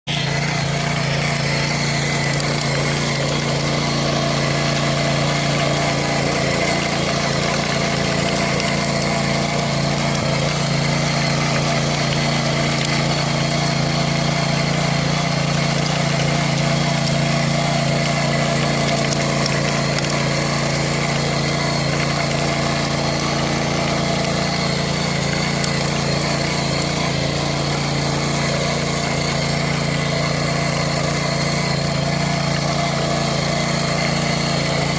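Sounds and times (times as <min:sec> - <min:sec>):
tiller petrol engine running: 0:00.0 - 0:34.9.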